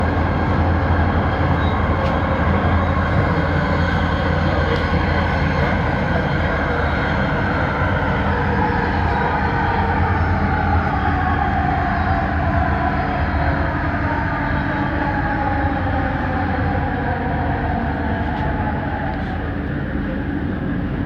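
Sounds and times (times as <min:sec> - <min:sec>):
train running rumble: 0:00.0 - 0:21.0.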